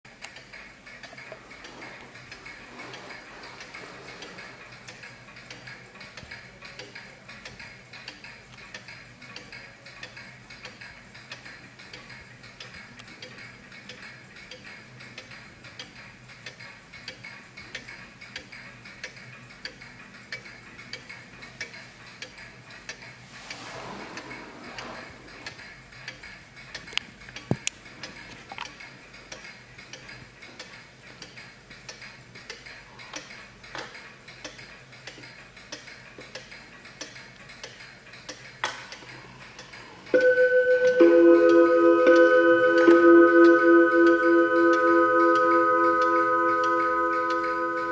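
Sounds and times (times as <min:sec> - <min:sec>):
wall clock ticking: 0:00.1 - 0:47.9.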